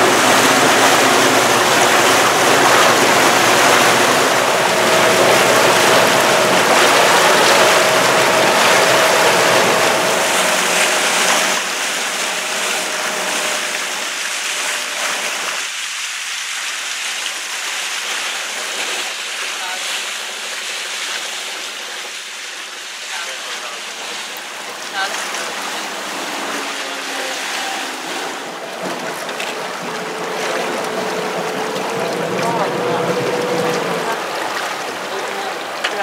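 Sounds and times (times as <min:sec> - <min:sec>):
water rushing in boat wake: 0:00.0 - 0:36.0.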